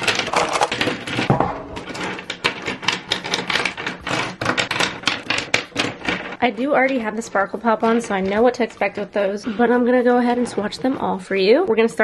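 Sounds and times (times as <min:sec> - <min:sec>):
plastic pens clattering on table: 0:00.0 - 0:11.0.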